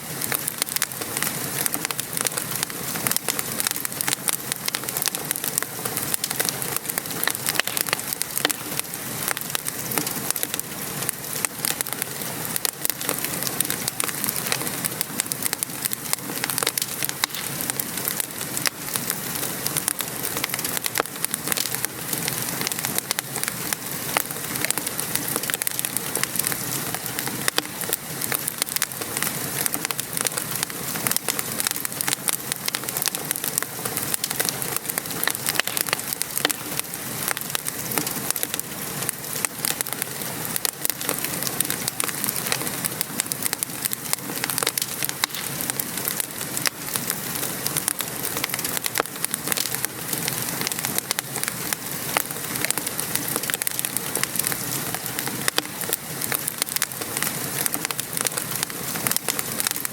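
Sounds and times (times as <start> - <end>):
rain patter: 0.0 - 59.9
wood fire crackling: 0.0 - 59.9.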